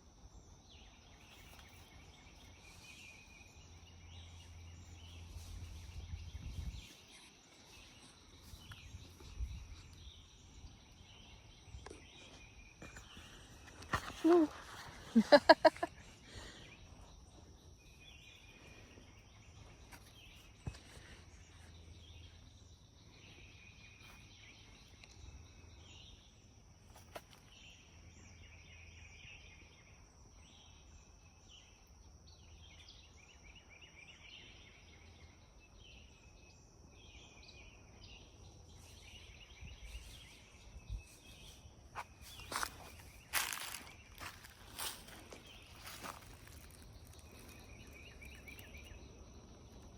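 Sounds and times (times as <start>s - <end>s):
high insect hum: 0.0s - 49.9s.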